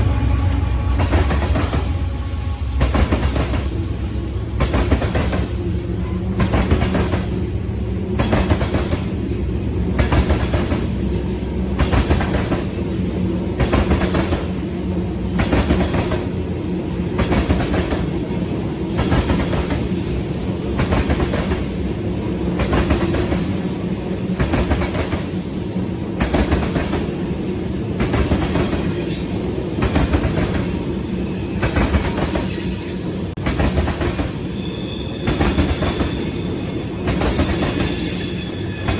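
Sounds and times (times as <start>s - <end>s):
train wheels clacking: 0.8s - 14.6s, 15.3s - 16.5s, 17.1s - 18.3s, 18.9s - 21.9s, 22.5s - 38.9s.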